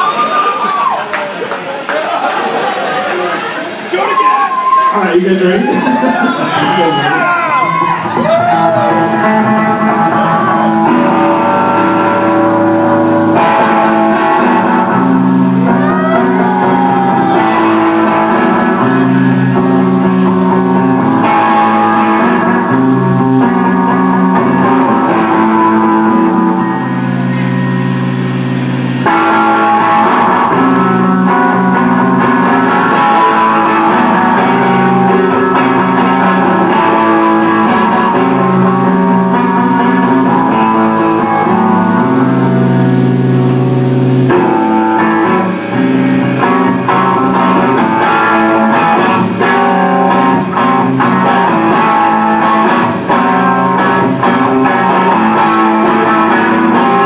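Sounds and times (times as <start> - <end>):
distorted electric guitar: 3.3 - 57.0
bass guitar chords: 5.7 - 57.0
heavy rock band playing live: 5.8 - 57.0.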